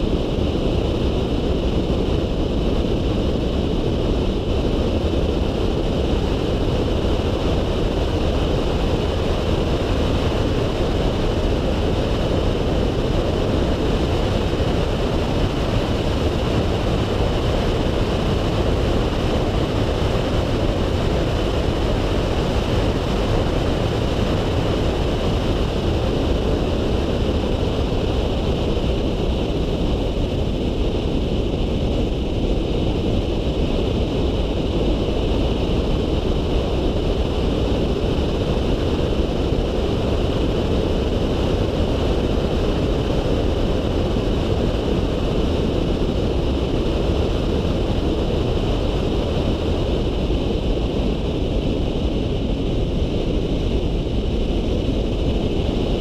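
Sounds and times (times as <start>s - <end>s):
road and engine noise: 0.0s - 56.0s
wind rushing over microphone: 0.0s - 56.0s.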